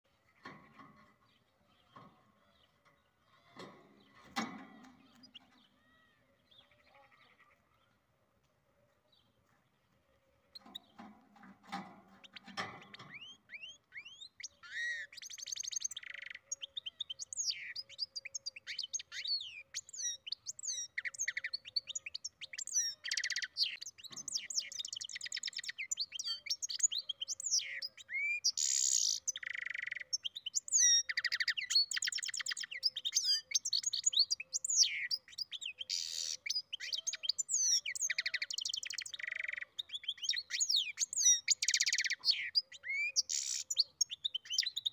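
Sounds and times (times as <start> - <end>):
bird singing twittering song: 0.2 - 8.0, 8.8 - 44.9.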